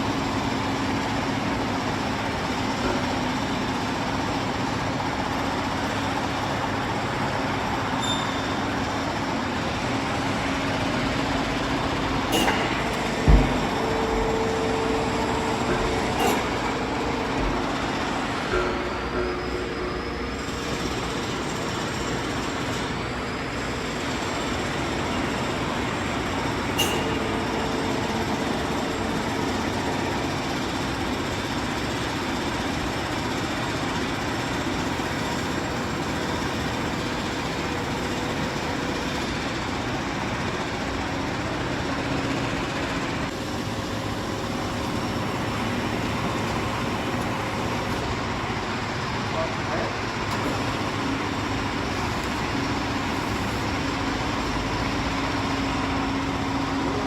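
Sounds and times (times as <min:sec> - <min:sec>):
lathe mechanical hum and hiss: 0:00.0 - 0:57.0.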